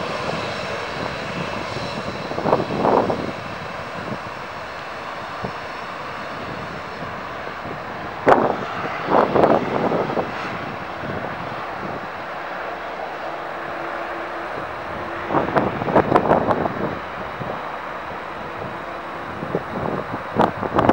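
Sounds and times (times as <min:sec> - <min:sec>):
airliner engines running: 0:00.0 - 0:20.9.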